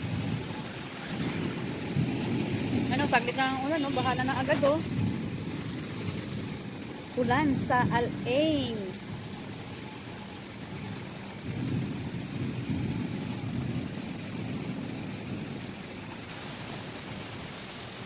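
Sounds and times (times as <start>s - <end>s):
low rumble of thunder: 0.0s - 18.0s
steady rain: 0.0s - 18.0s.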